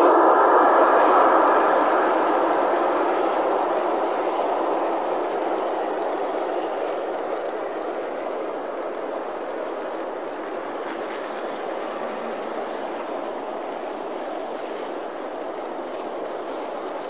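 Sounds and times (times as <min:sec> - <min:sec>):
model train wheels rumbling: 0:00.0 - 0:17.0
faint clicking: 0:01.1 - 0:17.0.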